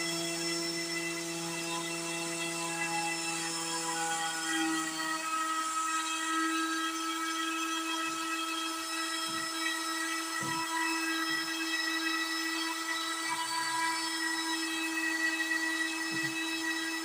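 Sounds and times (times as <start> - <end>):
router whining while carving wood: 0.0 - 17.0.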